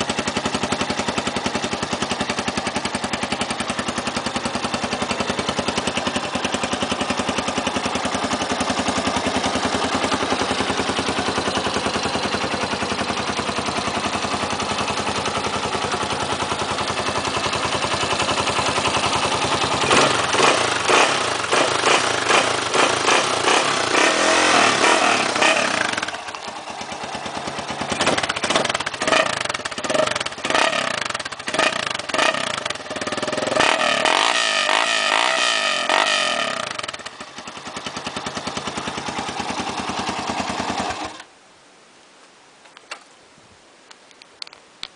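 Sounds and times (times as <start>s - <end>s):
motorcycle engine idling and revving: 0.0s - 41.3s.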